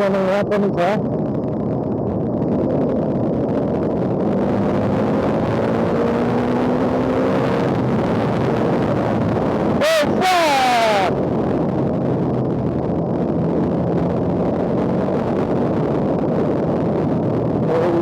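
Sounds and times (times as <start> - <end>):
wind and road rush: 0.0 - 18.0.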